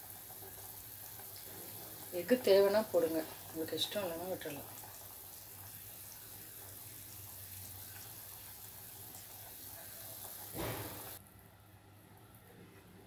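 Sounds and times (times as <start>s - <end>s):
soup simmering: 0.0s - 11.2s.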